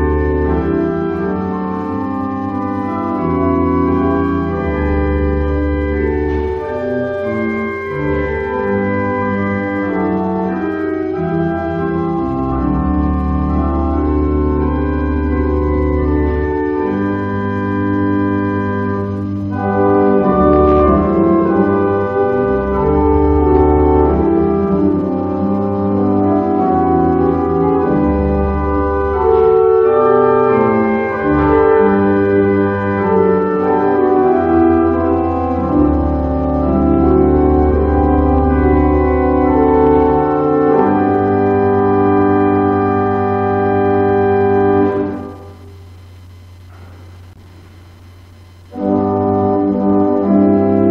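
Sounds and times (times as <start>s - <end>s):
pipe organ chords: 0.0s - 50.9s.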